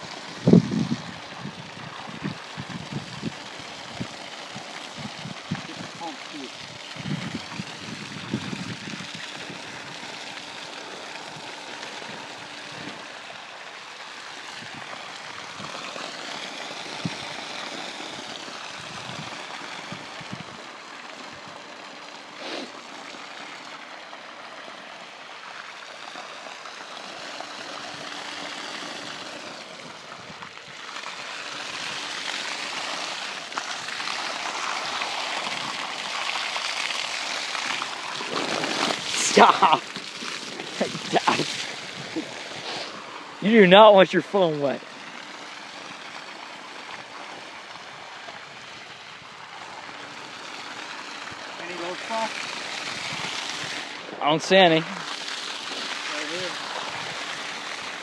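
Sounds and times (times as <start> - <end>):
water gushing from hose onto ice: 0.0 - 58.0.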